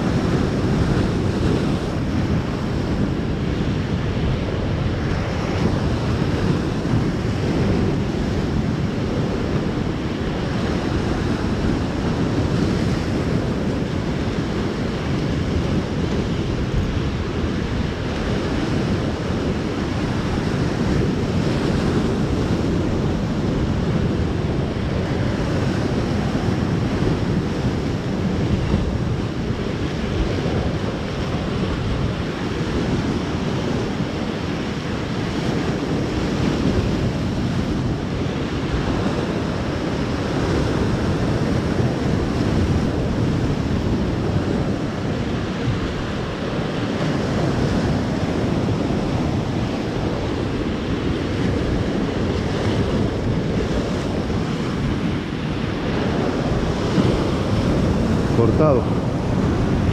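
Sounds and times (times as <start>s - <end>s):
surf breaking over rocks: 0.0s - 59.9s
wind buffeting microphone: 0.0s - 59.9s.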